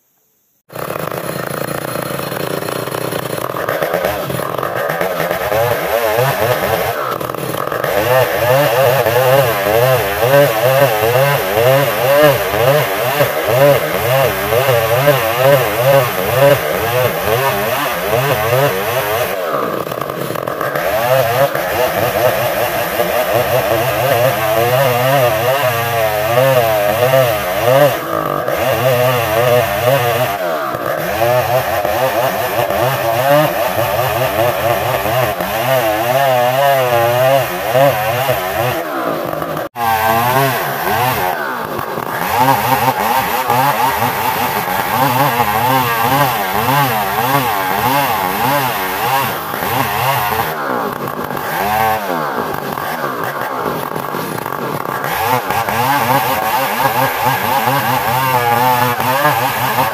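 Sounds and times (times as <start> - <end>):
chainsaw cutting through log: 0.6 - 59.9.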